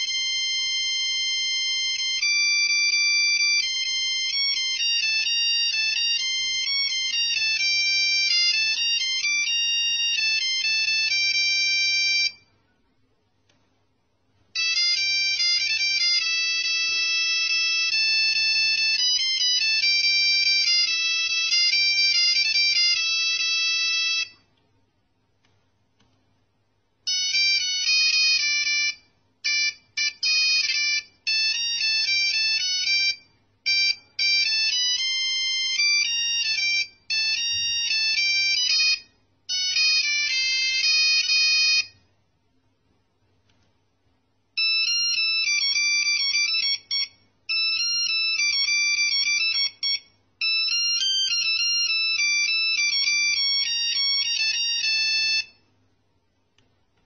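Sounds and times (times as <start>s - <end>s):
monophonic phone ringtone: 0.0s - 12.5s, 14.6s - 24.4s, 27.1s - 42.1s, 44.6s - 55.8s.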